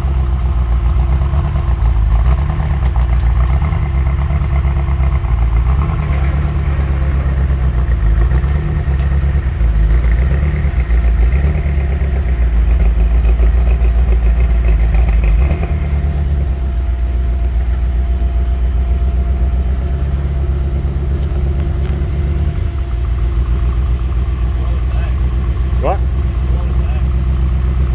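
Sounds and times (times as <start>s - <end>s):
car engine misfiring: 0.0s - 27.9s.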